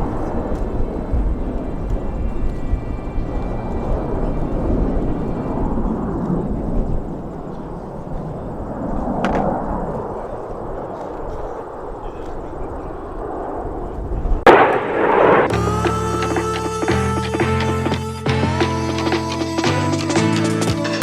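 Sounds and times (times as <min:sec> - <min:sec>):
jet aircraft roar: 0:00.0 - 0:19.7.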